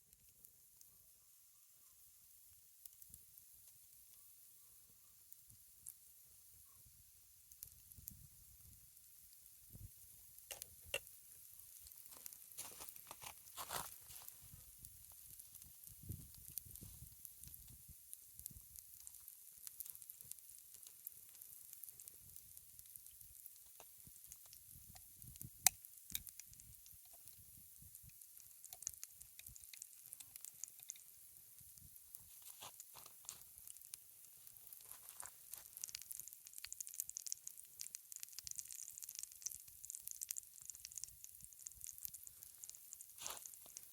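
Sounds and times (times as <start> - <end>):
crackles and pops: 0.0 - 43.9
faint steady hiss: 0.0 - 43.9
food sizzling in a skillet: 7.5 - 43.9.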